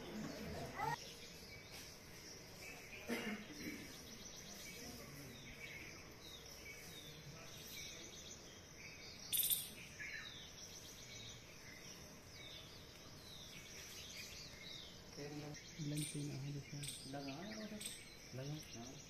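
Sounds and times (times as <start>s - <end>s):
faint outdoor hush: 0.0s - 19.0s
high falling bird calls: 0.0s - 19.0s.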